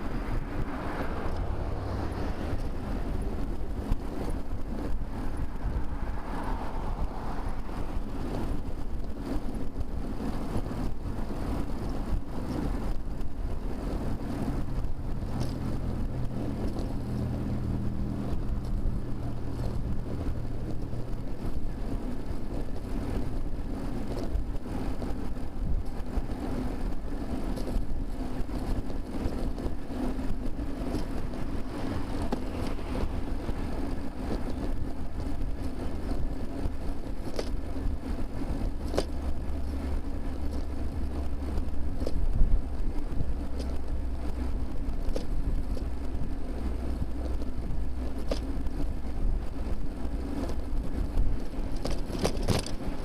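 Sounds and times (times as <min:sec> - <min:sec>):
road and wind rumble: 0:00.0 - 0:53.0
vehicle engine hum: 0:00.0 - 0:53.0.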